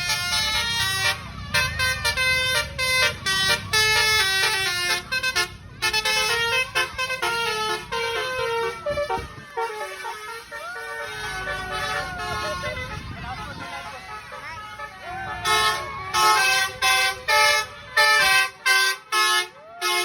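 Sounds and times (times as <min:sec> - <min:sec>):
multi-tone musical bus horn: 0:00.0 - 0:20.0.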